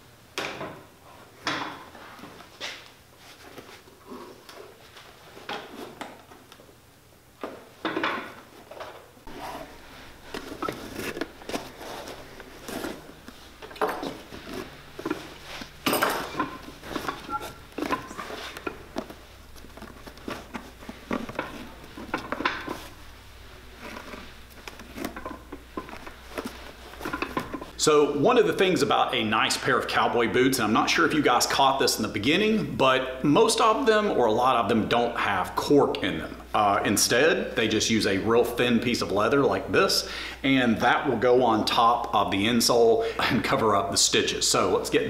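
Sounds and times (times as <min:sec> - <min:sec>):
low steady hum: 0:00.0 - 0:41.2.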